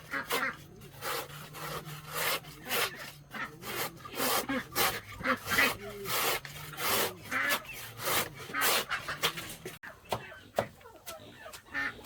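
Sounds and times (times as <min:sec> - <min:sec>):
wood rasping by hand: 0:00.0 - 0:09.8.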